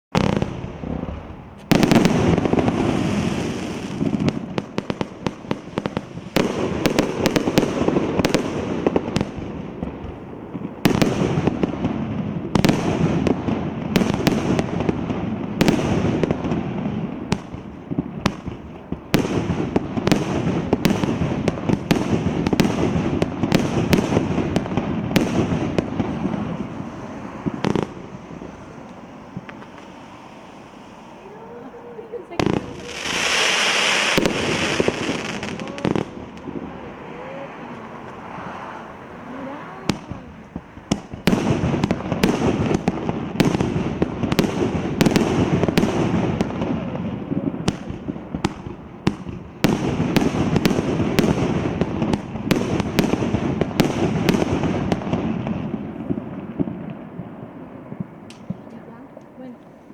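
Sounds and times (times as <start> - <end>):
firework bangs: 0.1 - 59.9
firework crackling: 0.1 - 59.9.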